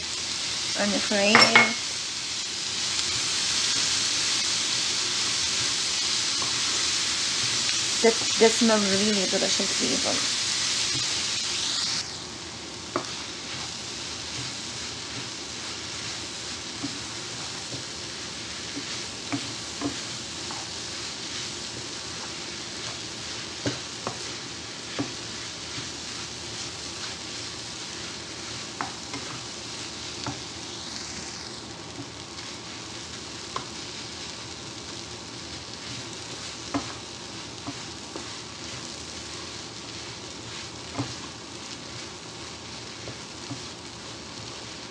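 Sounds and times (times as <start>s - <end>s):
vegetables sizzling in pan: 0.0s - 44.9s.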